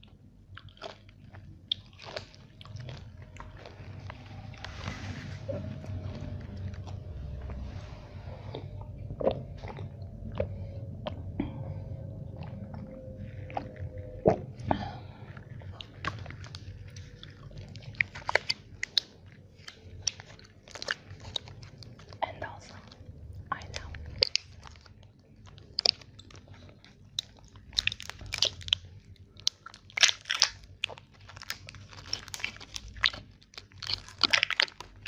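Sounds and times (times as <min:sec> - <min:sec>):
crunchy chewing: 0:00.0 - 0:35.0.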